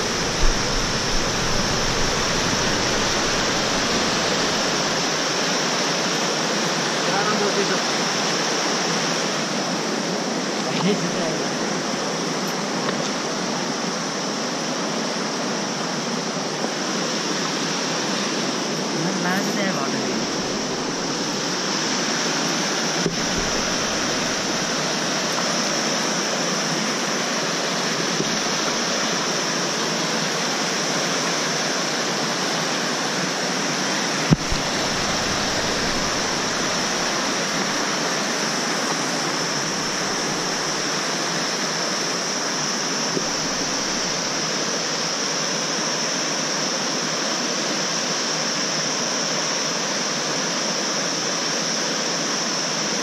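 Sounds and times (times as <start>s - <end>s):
river rushing over boulders: 0.0s - 53.0s.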